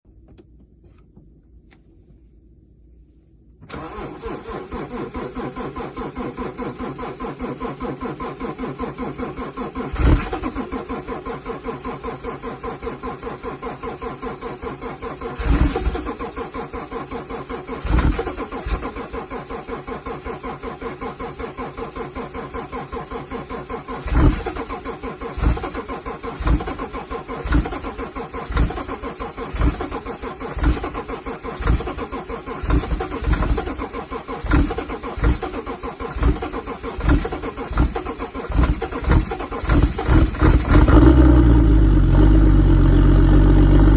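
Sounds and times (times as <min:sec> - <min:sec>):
car engine starting and idling: 0:00.1 - 0:43.9
engine revving bursts: 0:03.7 - 0:43.9.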